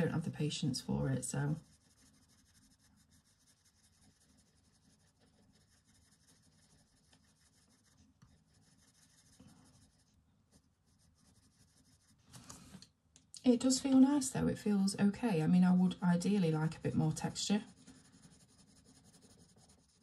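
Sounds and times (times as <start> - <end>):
pencil scratching on paper: 0.0 - 12.4, 16.3 - 20.0.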